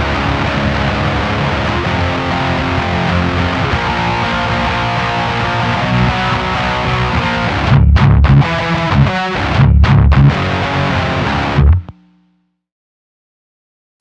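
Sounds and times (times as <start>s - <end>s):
distorted electric guitar riff: 0.0s - 12.5s.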